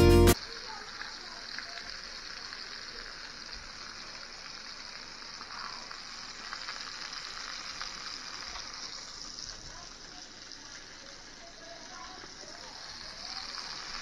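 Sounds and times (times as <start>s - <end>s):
sausages sizzling in oil: 0.0s - 14.0s.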